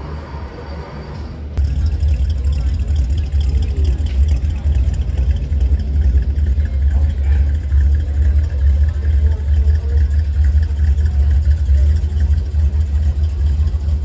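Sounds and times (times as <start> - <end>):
faint voices: 0.0 - 14.0
loud low rumble: 1.5 - 14.0.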